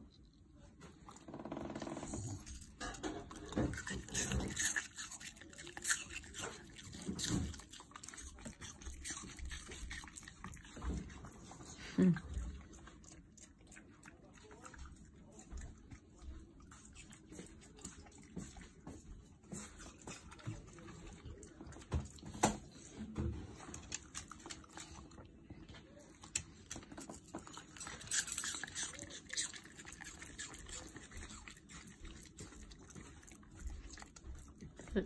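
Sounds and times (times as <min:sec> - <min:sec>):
dog eating and crunching: 0:00.0 - 0:35.0.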